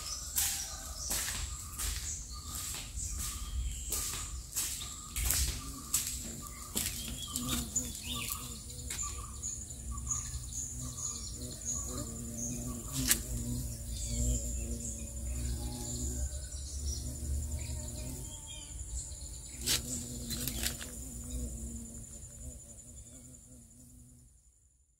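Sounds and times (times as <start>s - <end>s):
birds chirping: 0.0s - 23.9s
high insect drone: 0.0s - 24.9s.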